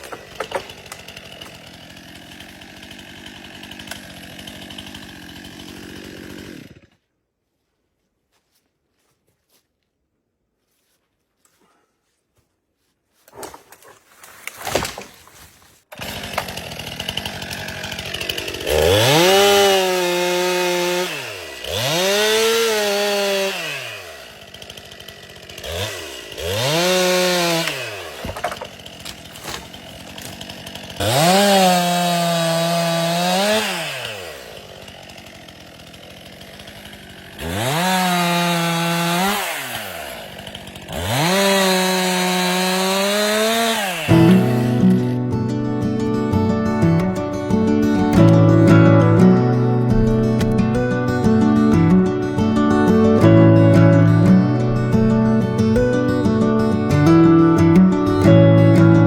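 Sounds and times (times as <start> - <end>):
chainsaw idling and revving: 0.0 - 7.1, 14.8 - 59.0.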